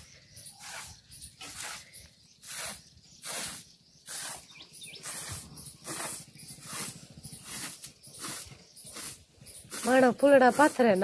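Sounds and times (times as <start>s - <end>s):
broom sweeping concrete floor: 0.0s - 10.8s.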